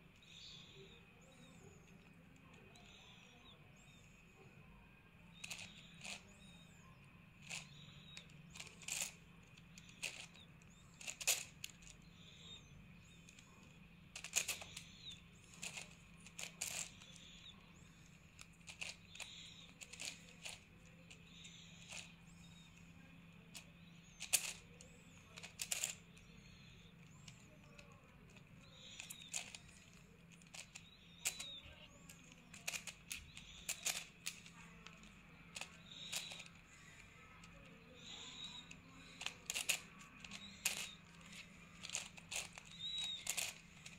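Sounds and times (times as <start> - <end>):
puzzle cube clicking: 5.3 - 6.6, 7.4 - 13.5, 14.1 - 22.8, 23.5 - 43.9.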